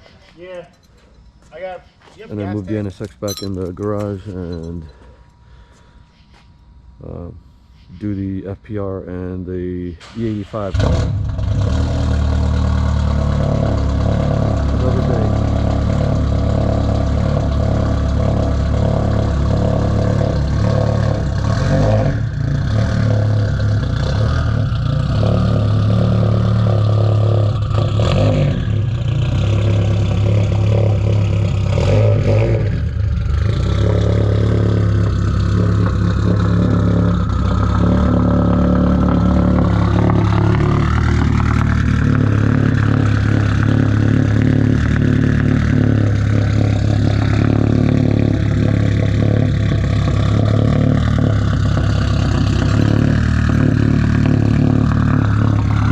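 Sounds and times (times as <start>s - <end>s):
car engine idling: 8.8s - 55.9s
engine revving: 10.3s - 55.9s.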